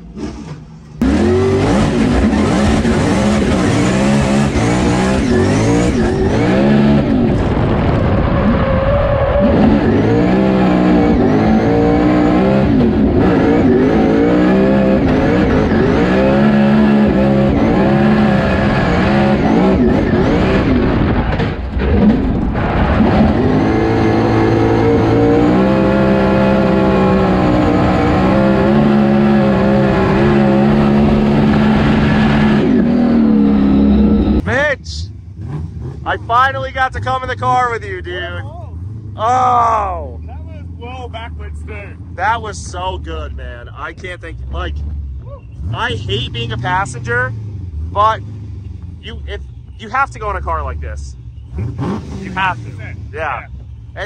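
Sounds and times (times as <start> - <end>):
supercharged car engine revving: 0.0 - 34.5, 35.3 - 54.0.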